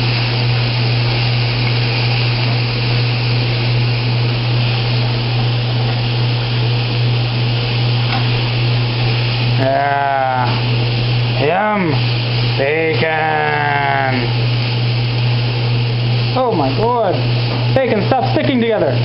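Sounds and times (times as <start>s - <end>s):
bacon frying in a pan: 0.0s - 19.0s
kitchen appliance motor hum: 0.0s - 19.0s.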